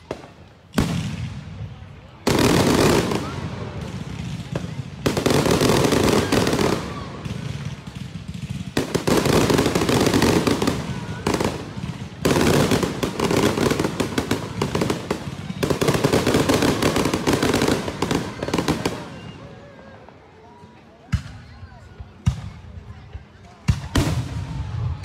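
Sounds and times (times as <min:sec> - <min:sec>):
fireworks pops and bangs: 0:00.0 - 0:19.4, 0:21.1 - 0:25.0.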